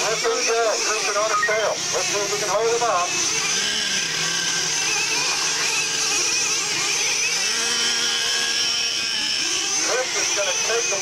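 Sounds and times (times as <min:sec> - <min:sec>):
small engines buzzing: 0:00.0 - 0:11.0.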